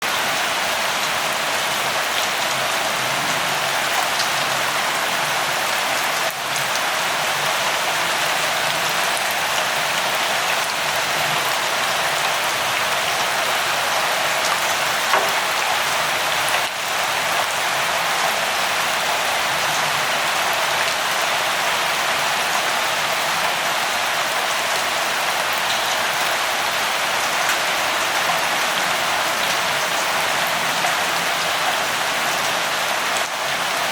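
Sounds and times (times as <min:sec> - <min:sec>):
light rain falling: 0:00.0 - 0:33.9.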